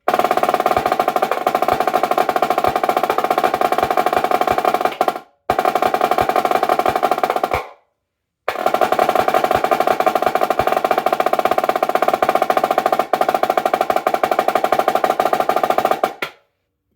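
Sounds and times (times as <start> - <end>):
snare drum rolls: 0.0 - 7.8, 8.5 - 16.4.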